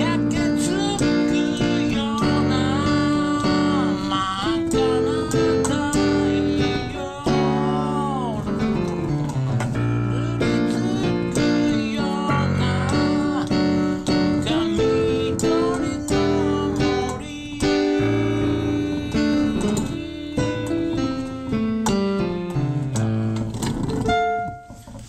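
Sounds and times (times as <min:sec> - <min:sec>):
man singing: 0:00.0 - 0:22.3
digital piano: 0:00.0 - 0:25.0.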